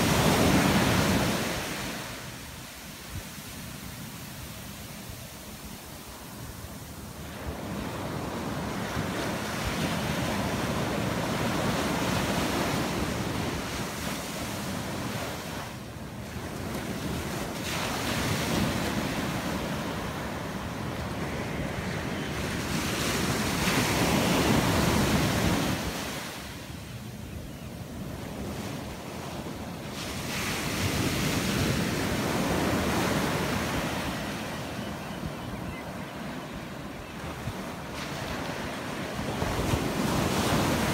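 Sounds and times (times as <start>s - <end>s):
ocean surf breaking on beach: 0.0s - 26.8s, 28.0s - 40.9s.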